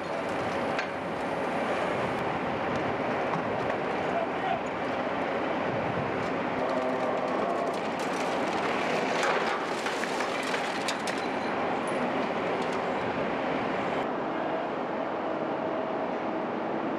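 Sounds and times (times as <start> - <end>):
diesel engines running: 0.0 - 16.8.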